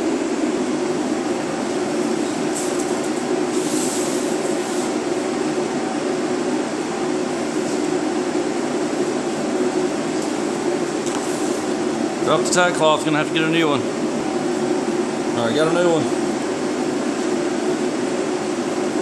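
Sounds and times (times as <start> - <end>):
ventilation fans rushing air: 0.0 - 19.0.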